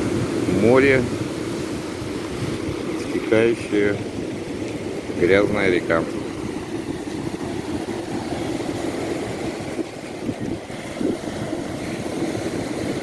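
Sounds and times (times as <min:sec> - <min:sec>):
waves breaking: 0:00.0 - 0:13.0
wind on microphone: 0:00.0 - 0:13.0.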